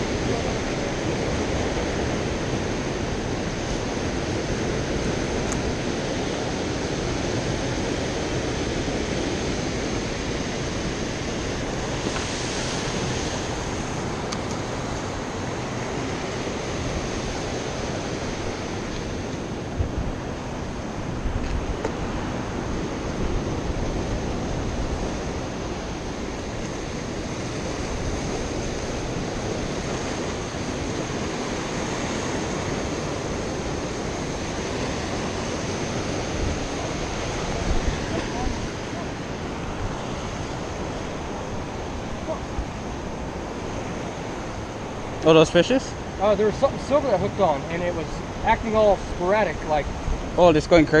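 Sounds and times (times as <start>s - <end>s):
surf breaking on rocks: 0.0s - 51.0s.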